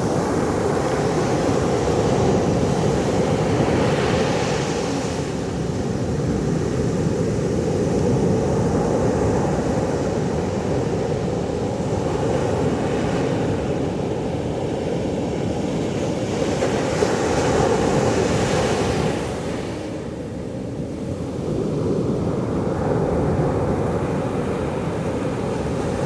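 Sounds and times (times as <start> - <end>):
deep rumble of surf: 0.0 - 26.0.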